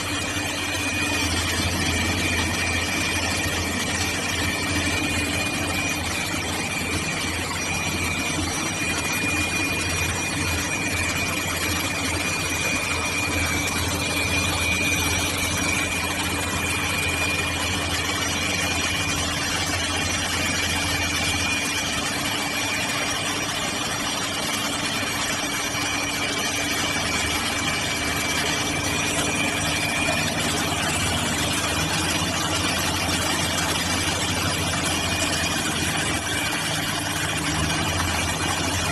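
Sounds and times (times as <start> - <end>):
grinding machine with high whine: 0.0 - 38.9.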